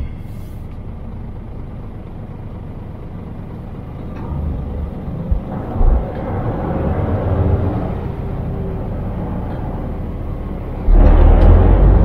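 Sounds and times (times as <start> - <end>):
loud rumble: 0.0 - 12.0
truck engine and road noise: 0.0 - 12.0.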